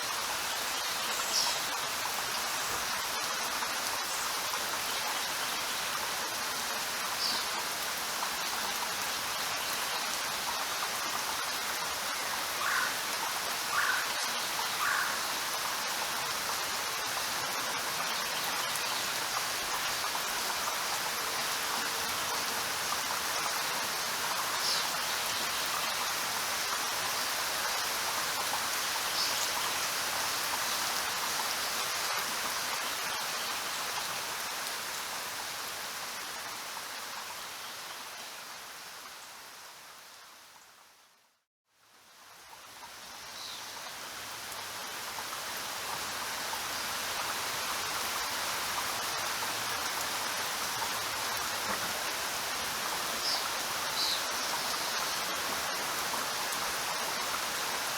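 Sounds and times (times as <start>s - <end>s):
steady rainfall hiss: 0.0s - 57.9s.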